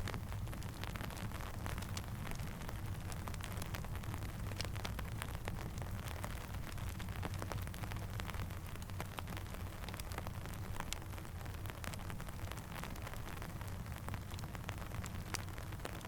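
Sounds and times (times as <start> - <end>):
small irregular pops and ticks: 0.0 - 16.0
steady rainfall: 0.0 - 16.0.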